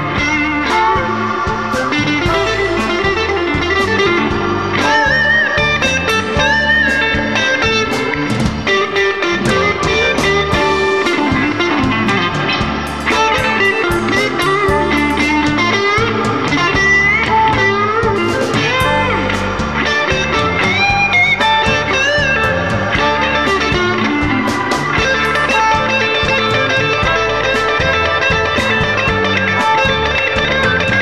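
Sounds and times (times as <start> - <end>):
electric blues band playing: 0.0 - 31.0
lead electric guitar bent notes: 0.0 - 31.0.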